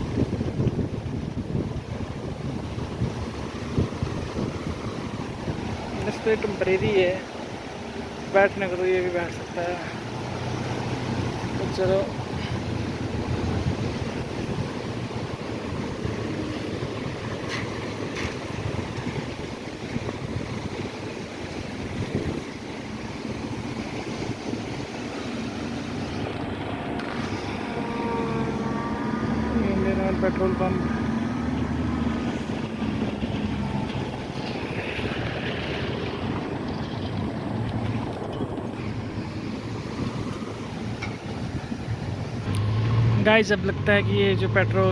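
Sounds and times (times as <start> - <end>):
steady rushing noise: 0.0 - 44.9
vehicle rumble: 0.0 - 44.9
wind buffeting microphone: 0.0 - 44.9.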